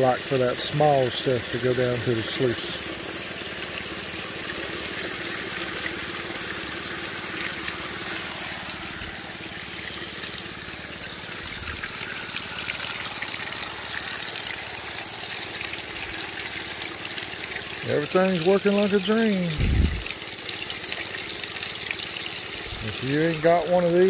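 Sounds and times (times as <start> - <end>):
low machine hum: 0.0 - 20.4
water pouring and splashing: 0.0 - 24.0.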